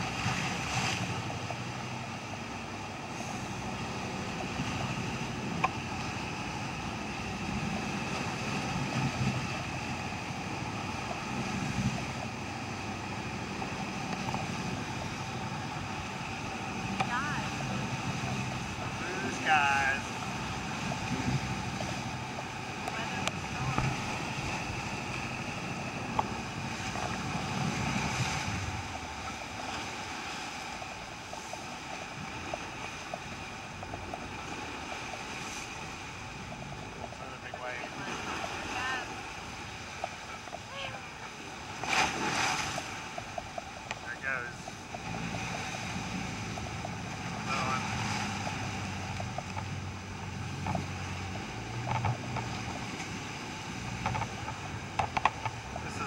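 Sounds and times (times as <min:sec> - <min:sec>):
boat engine running: 0:00.0 - 0:56.0
rough sea splashing past hull: 0:00.0 - 0:56.0
rushing water: 0:00.0 - 0:56.0
wind: 0:00.0 - 0:56.0.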